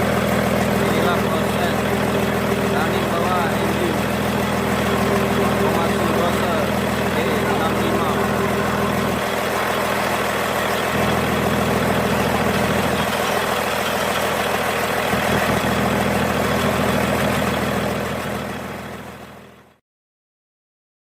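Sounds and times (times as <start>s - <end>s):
diesel engine idling: 0.0s - 19.8s.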